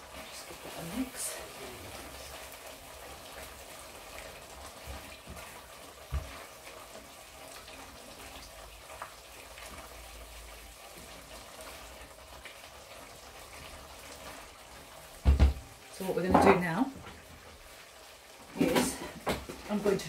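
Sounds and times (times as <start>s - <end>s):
sauce bubbling in a pot: 0.0s - 20.0s.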